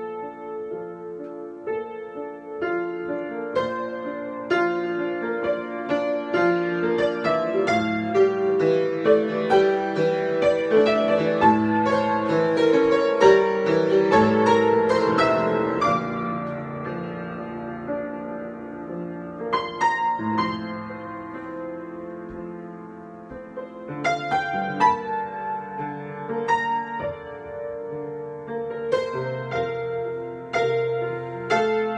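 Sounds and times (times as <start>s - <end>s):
solo piano improvisation: 0.0s - 31.9s.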